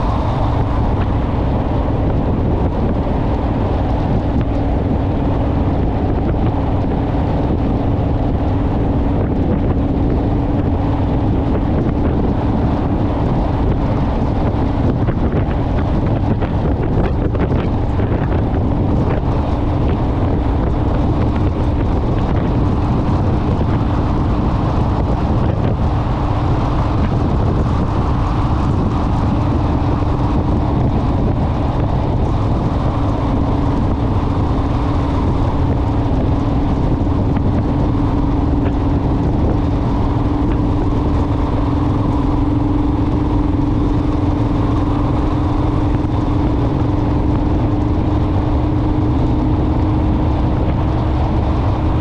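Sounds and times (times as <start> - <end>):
heavy wind: 0.0 - 52.0
motorcycle engine drone: 0.0 - 52.0
road rumble: 0.0 - 52.0.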